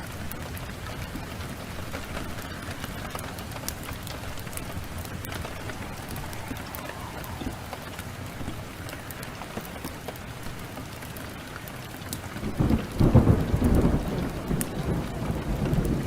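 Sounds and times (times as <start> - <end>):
thunder rumbling: 0.0 - 11.4, 12.2 - 16.0
rain downpour: 0.0 - 16.0.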